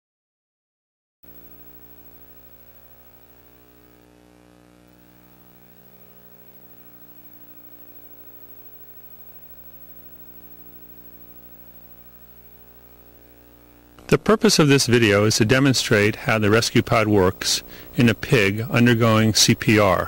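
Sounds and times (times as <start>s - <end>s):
electrical mains hum: 1.2s - 20.0s.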